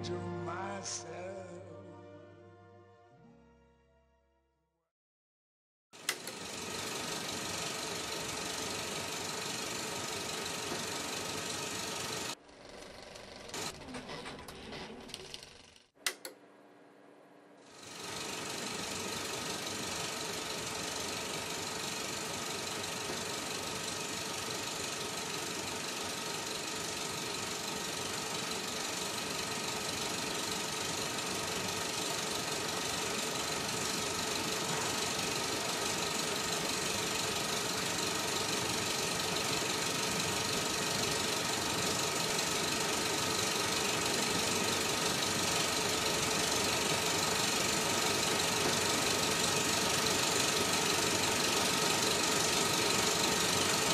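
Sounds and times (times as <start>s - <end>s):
film projector clattering: 6.0s - 16.4s, 17.7s - 53.9s.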